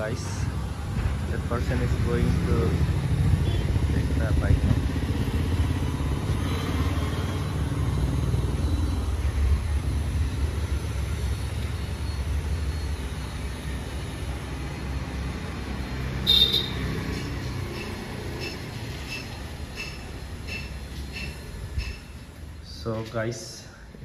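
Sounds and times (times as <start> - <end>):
scooters and cars passing: 0.0 - 24.0.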